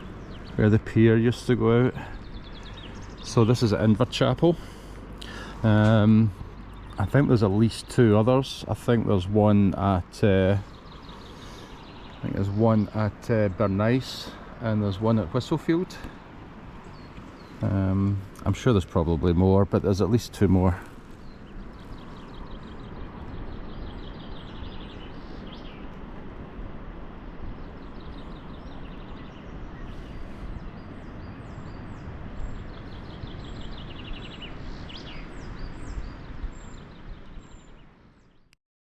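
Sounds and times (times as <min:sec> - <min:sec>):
birds chirping and trilling: 0:00.0 - 0:38.6.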